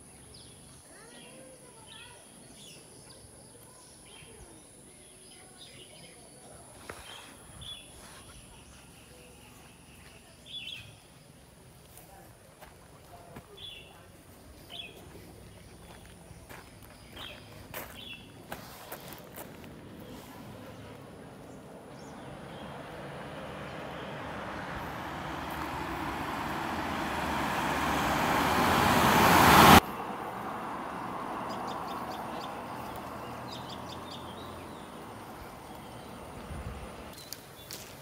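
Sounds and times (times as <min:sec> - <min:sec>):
vehicle engine and tyre noise: 0:06.7 - 0:38.0.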